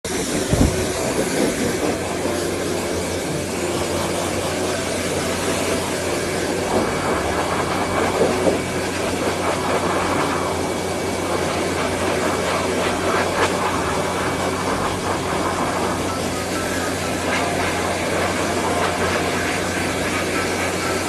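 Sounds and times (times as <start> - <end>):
mechanical rumble and hiss: 0.1 - 21.0.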